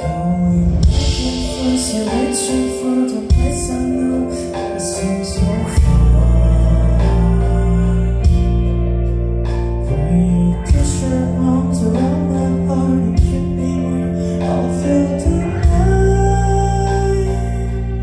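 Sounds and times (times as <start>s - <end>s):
live band with singing: 0.0s - 18.0s.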